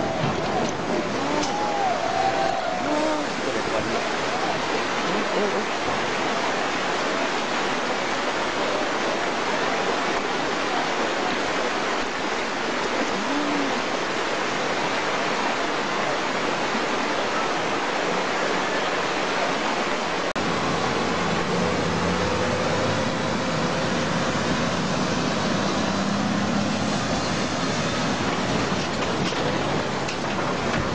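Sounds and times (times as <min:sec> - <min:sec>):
floodwater rushing: 0:00.0 - 0:30.9.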